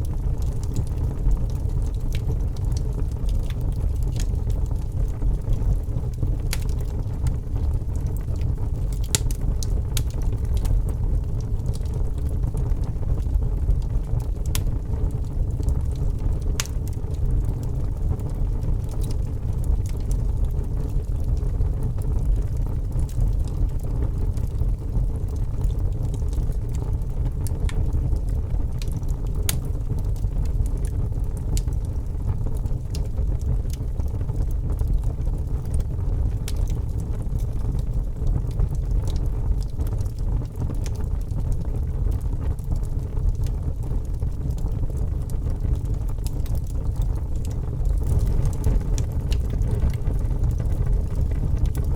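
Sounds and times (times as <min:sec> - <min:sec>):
low rumble of flames: 0:00.0 - 0:51.9
wood crackling and popping: 0:00.0 - 0:51.9.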